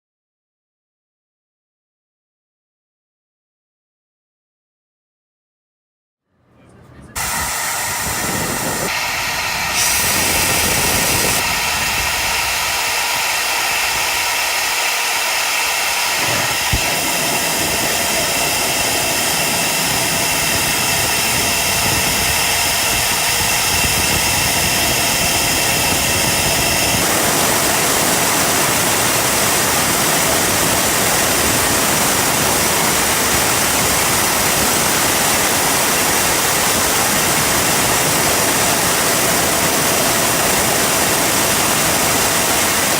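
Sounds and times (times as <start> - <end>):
jet engine roaring and whining: 7.1 - 42.9.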